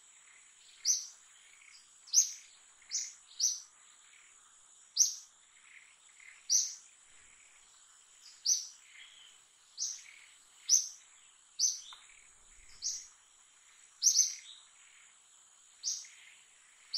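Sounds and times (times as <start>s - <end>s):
bird chirping: 0.1s - 16.9s.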